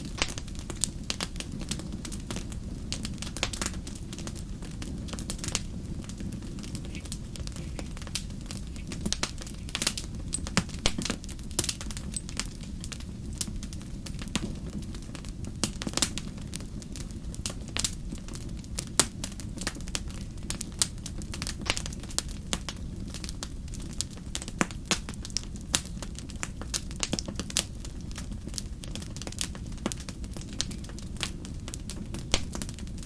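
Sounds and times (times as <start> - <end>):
low fire rumble: 0.0 - 33.0
wood fire crackling and popping: 0.0 - 33.0.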